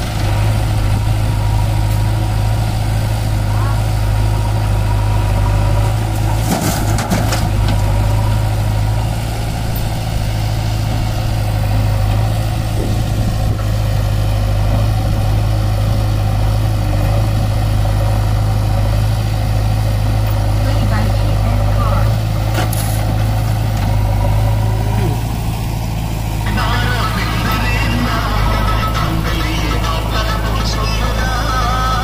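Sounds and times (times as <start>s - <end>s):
diesel engines idling: 0.0s - 32.0s.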